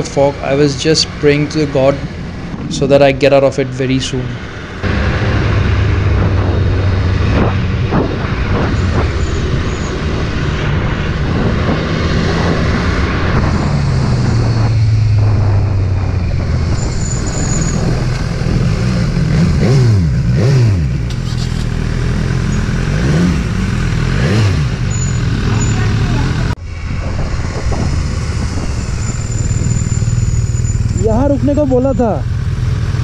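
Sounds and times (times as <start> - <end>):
wind noise: 0.0 - 21.7, 23.1 - 32.0
motorcycle engine running: 0.0 - 33.0.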